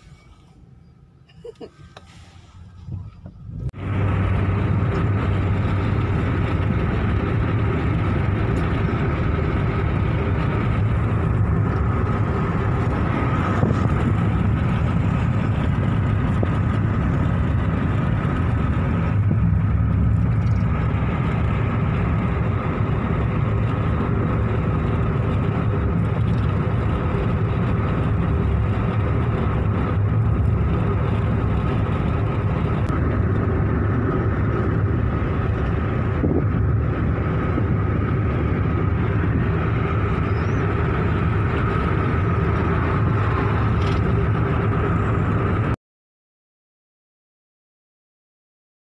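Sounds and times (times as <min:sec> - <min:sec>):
car engine and road noise: 0:00.0 - 0:45.8.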